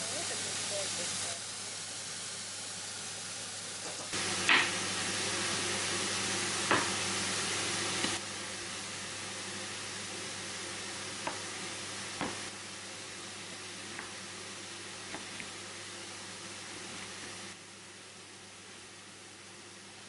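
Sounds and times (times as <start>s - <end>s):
mushrooms sizzling in frying pan: 0.0s - 20.0s.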